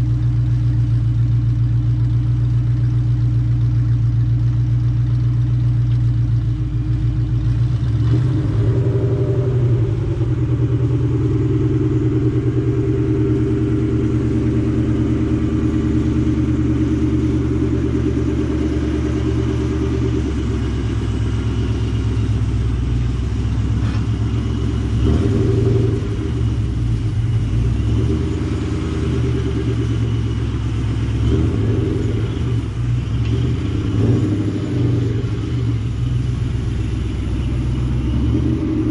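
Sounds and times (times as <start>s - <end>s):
low exhaust drone: 0.0s - 38.9s.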